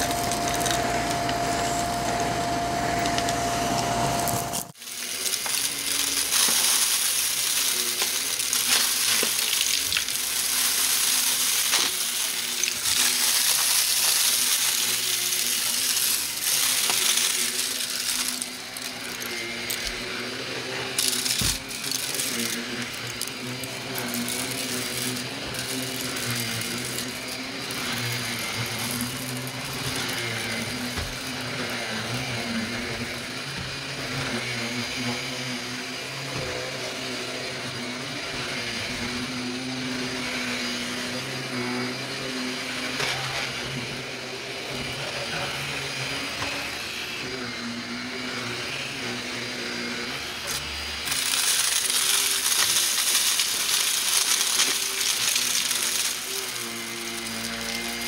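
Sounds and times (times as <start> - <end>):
motorized brush tool hissing: 0.0 - 58.0
upright vacuum cleaner running: 0.0 - 58.0.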